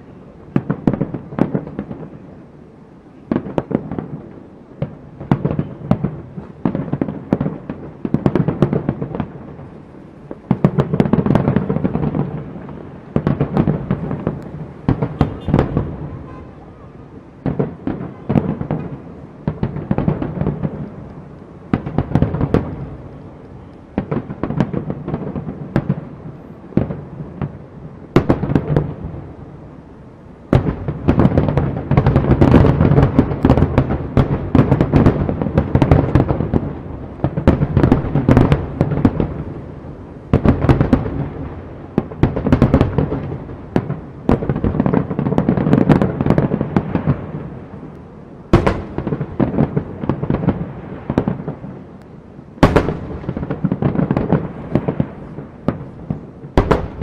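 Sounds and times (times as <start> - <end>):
fireworks bangs and booms: 0.0 - 57.0.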